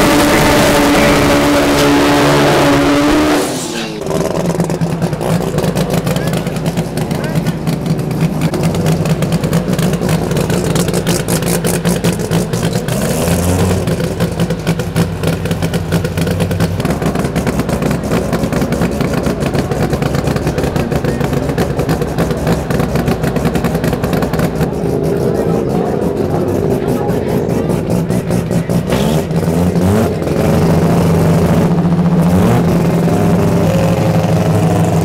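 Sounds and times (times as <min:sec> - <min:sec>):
race car engine running: 0:00.0 - 0:35.0.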